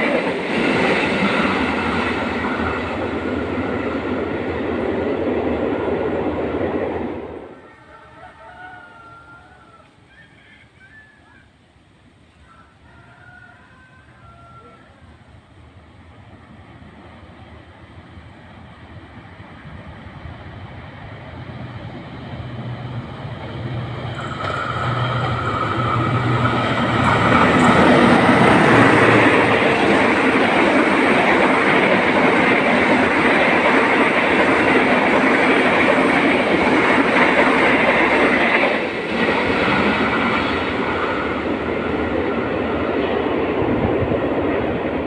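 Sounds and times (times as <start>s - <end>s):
wheels rumbling on rail: 0.0s - 7.7s, 14.3s - 45.0s.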